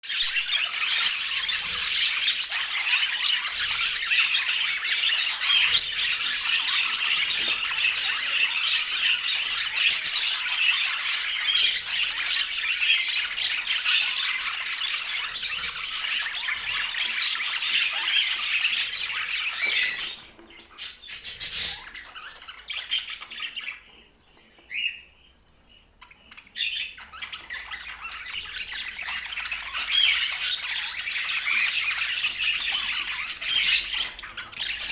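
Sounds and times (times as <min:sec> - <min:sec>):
budgerigars chattering and squawking: 0:00.1 - 0:34.9.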